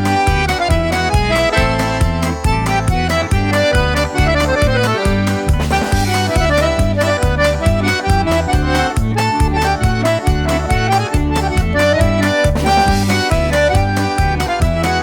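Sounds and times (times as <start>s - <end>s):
accordion playing a lively tune: 0.0s - 15.0s.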